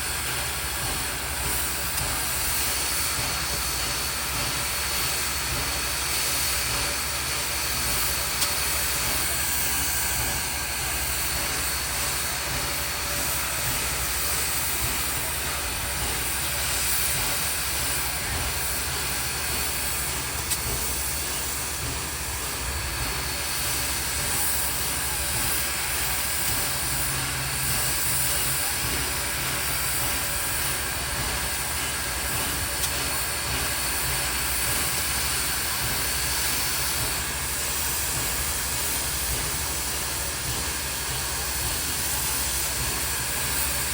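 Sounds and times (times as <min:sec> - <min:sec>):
train wheels rushing on rail: 0:00.0 - 0:43.9.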